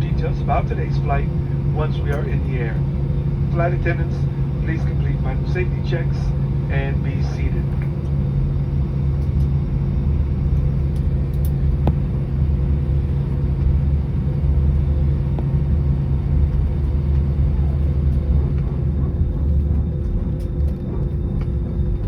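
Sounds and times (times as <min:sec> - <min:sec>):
constant hum: 0:00.0 - 0:22.0
jet engine cabin rumble: 0:00.0 - 0:22.0.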